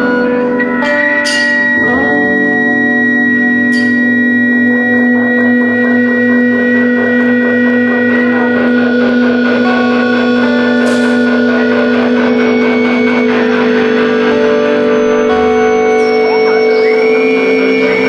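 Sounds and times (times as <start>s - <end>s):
guitar drones: 0.0s - 18.0s.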